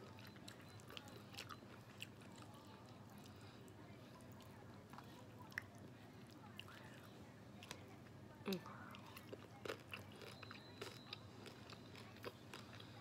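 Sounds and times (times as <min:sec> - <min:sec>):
chewing with mouth closed: 0:00.0 - 0:07.9, 0:08.6 - 0:13.0.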